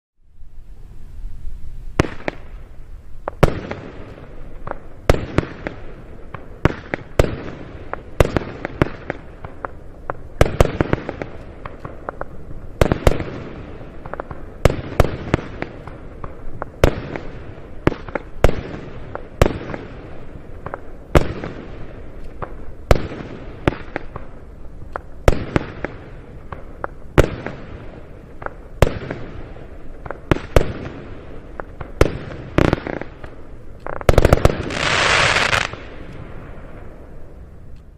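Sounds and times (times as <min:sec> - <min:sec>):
fireworks crackling: 0:00.4 - 0:37.9
fireworks shots: 0:01.9 - 0:37.9.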